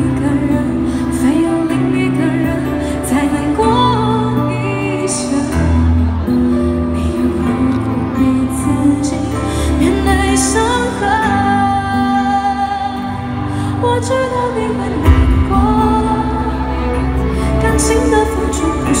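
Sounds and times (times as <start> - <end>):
woman singing pop ballad: 0.0 - 19.0.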